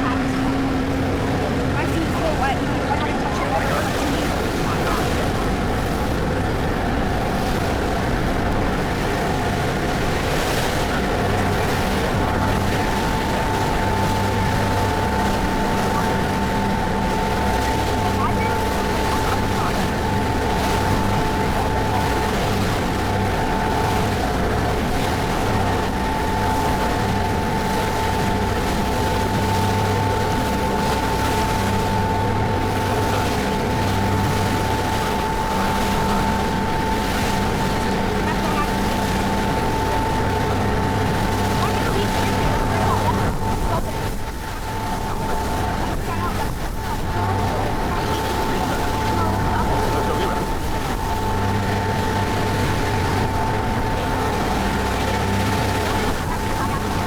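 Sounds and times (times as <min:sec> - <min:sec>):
ferry engine drone: 0:00.0 - 0:57.0
water rushing along hull: 0:00.0 - 0:57.0.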